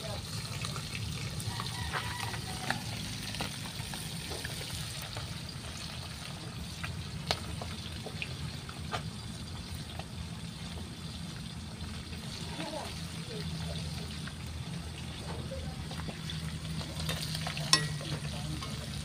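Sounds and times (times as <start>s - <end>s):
fish frying in hot oil: 0.0s - 19.0s
wood fire crackling: 0.0s - 19.0s.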